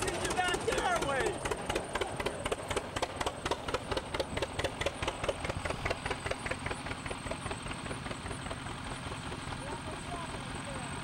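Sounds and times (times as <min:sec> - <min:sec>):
tractor exhaust popping: 0:00.0 - 0:10.7
tractor engine rumble: 0:00.0 - 0:11.0.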